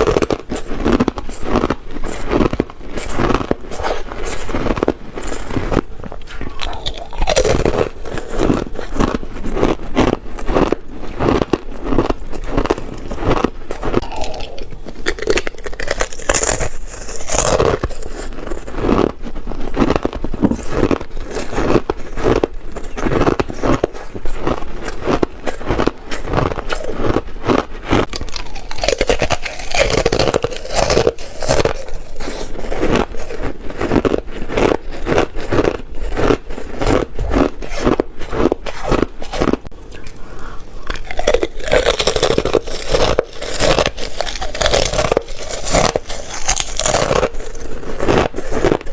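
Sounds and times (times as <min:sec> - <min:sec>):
ice being chewed crunching: 0:00.0 - 0:48.9.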